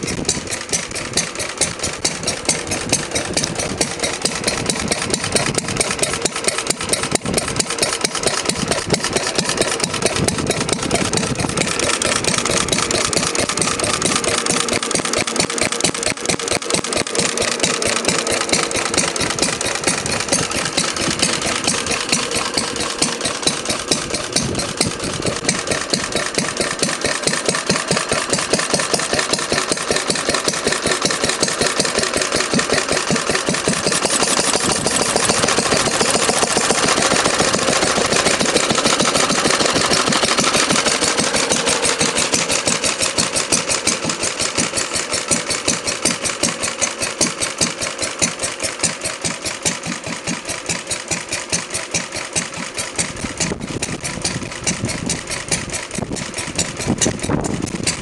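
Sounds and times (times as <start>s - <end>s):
stationary engine idling: 0.0s - 58.0s.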